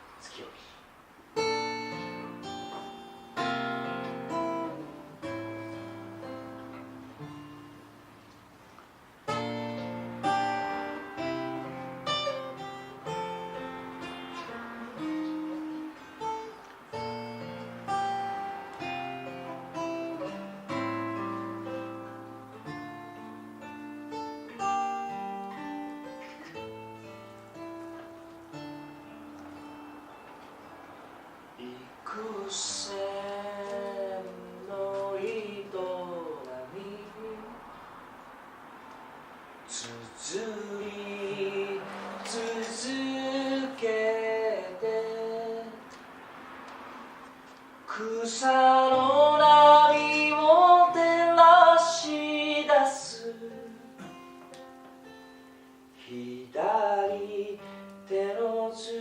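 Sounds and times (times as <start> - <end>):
acoustic guitar strummed chords: 1.2 - 59.0.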